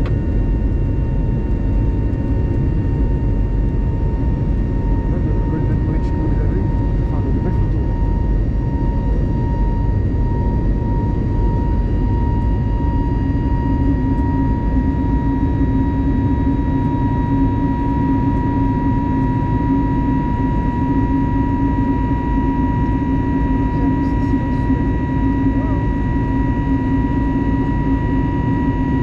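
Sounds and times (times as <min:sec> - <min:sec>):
airplane cabin engine rumble: 0:00.0 - 0:29.0
low hum: 0:00.0 - 0:29.0
thin steady whine: 0:00.0 - 0:29.0.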